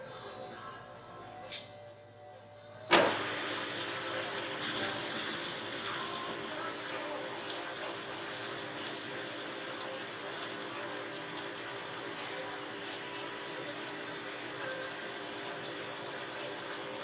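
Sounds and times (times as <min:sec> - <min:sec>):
small machine whirring: 0:02.9 - 0:17.0.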